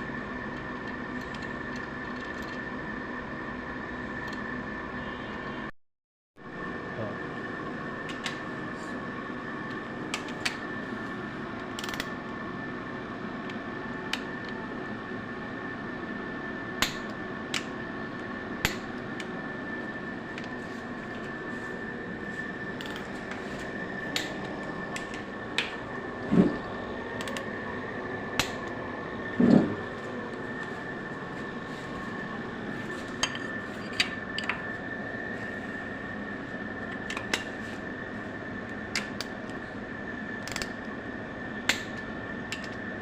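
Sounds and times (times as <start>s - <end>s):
mechanical hum with whine: 0.0s - 5.8s, 6.4s - 43.0s.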